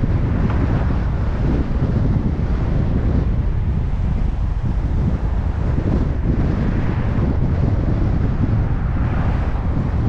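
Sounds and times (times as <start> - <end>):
car road noise: 0.0 - 10.0
wind buffeting microphone: 0.0 - 10.0.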